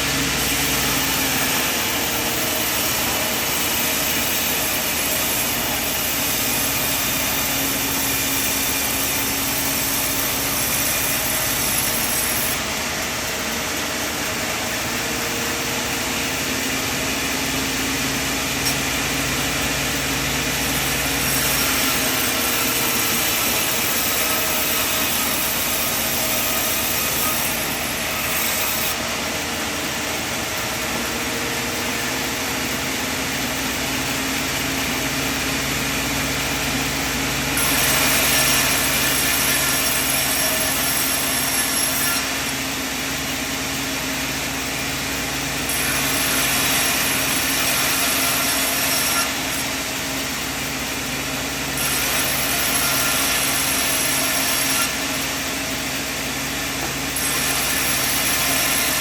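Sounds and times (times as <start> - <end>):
saw cutting wood: 0.0 - 59.0
sawmill machine running: 0.0 - 59.0.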